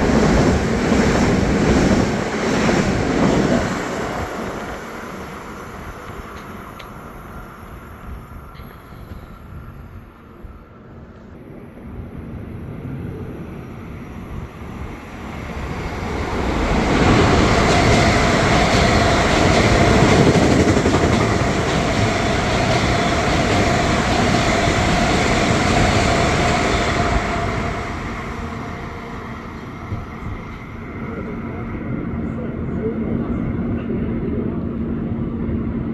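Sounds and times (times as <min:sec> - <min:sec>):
train passing close by: 0:00.0 - 0:35.9.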